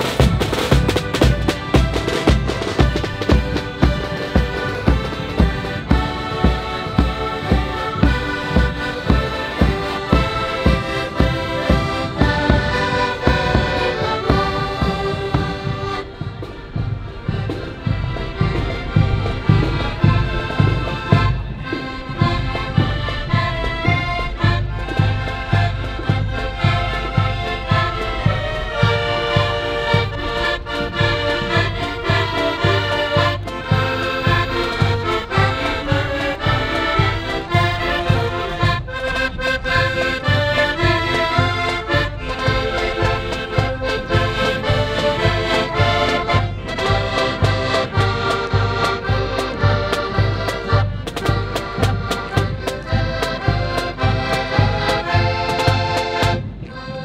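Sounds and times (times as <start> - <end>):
accordion band playing: 0.0 - 57.0
steady drum beat: 0.0 - 57.0.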